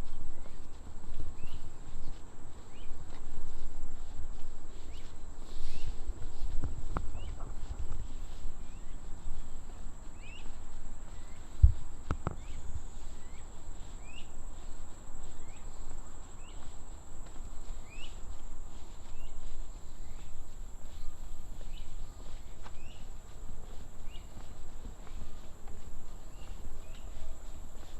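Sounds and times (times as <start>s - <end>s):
insect chorus: 0.0s - 27.9s.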